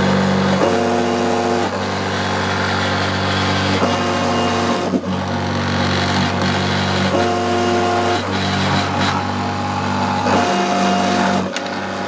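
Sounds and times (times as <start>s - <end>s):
milling spindle running: 0.0s - 12.0s
stepper motors whining: 0.0s - 12.0s.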